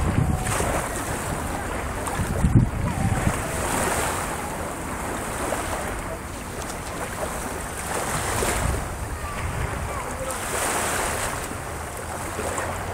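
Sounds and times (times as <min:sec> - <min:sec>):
small waves breaking: 0:00.0 - 0:12.9
wind buffeting microphone: 0:00.0 - 0:12.9.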